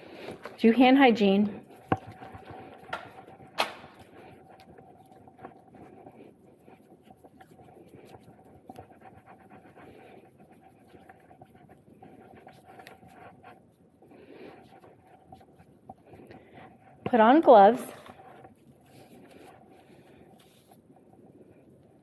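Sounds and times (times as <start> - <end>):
hands rubbing: 0.1 - 21.6.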